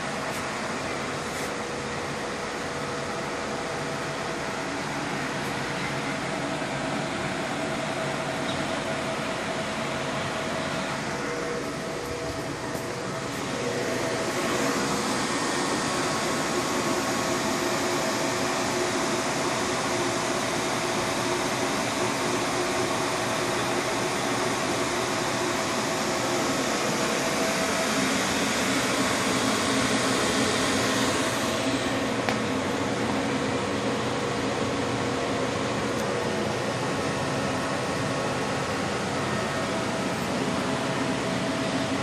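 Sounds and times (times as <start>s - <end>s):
cooling fans whirring: 0.0s - 42.0s.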